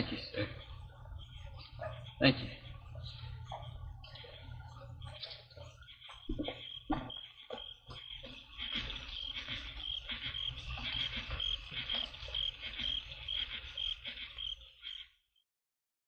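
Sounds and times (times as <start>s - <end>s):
cricket chirping: 0.0s - 15.2s.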